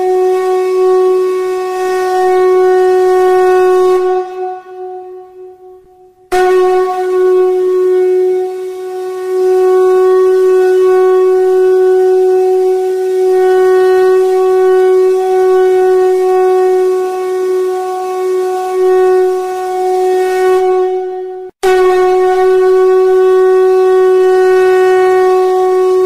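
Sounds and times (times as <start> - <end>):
loud steady drone: 0.0 - 21.0.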